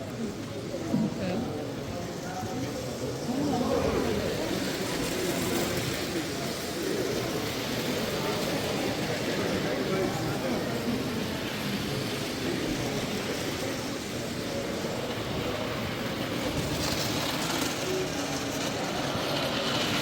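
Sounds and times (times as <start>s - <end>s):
murmur of crowd voices: 0.0s - 20.0s.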